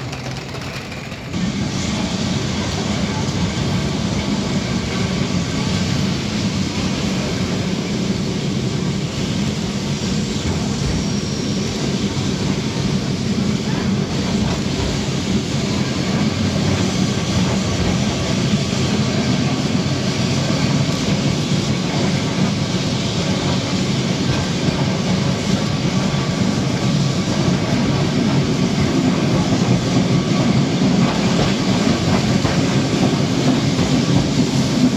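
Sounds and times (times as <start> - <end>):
tram rumbling on rails: 0.0 - 34.9.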